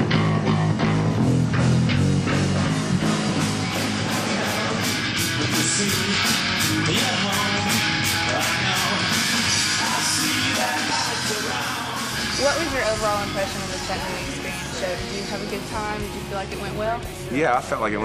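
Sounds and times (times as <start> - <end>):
electric guitar: 0.0 - 17.3
drums: 0.0 - 18.0.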